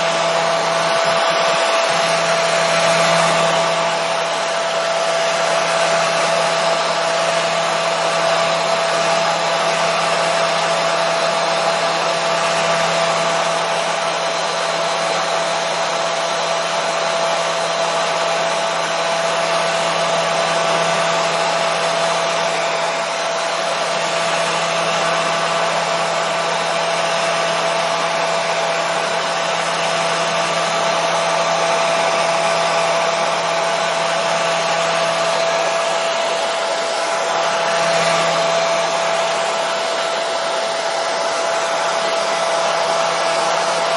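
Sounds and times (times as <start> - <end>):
hair dryer running: 0.0 - 43.9.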